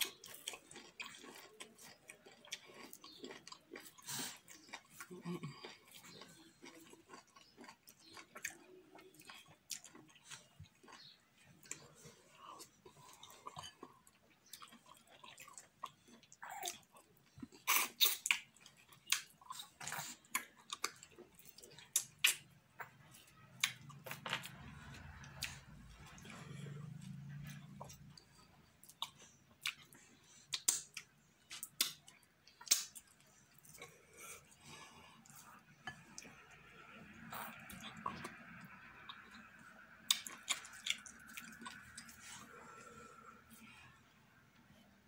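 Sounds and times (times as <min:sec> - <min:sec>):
chewing and wet mouth smacks: 0:00.0 - 0:12.0, 0:12.6 - 0:33.9, 0:37.2 - 0:42.4.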